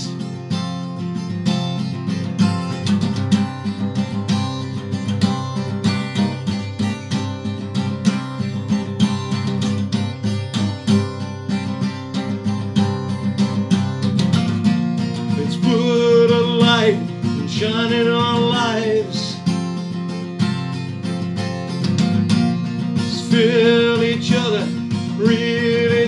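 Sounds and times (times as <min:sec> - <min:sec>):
acoustic guitar strummed: 0:00.0 - 0:26.0.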